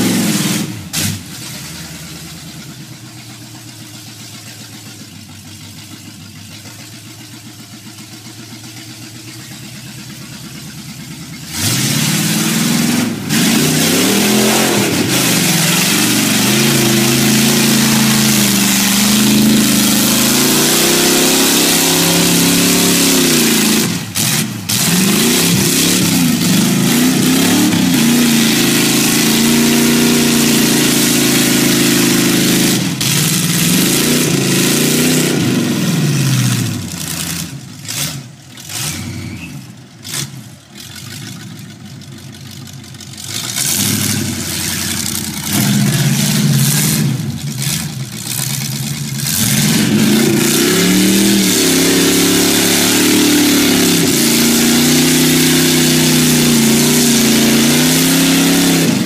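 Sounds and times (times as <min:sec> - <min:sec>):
truck engine revving hard: 0:00.0 - 0:03.0, 0:09.4 - 0:41.7, 0:43.2 - 0:59.0
tyres spinning and slinging mud: 0:09.0 - 0:59.0.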